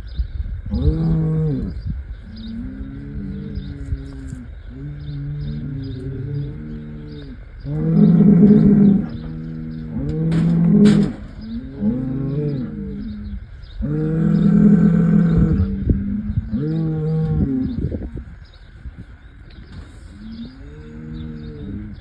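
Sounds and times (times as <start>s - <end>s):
bulls bellowing: 2.4s - 18.2s, 20.1s - 22.0s.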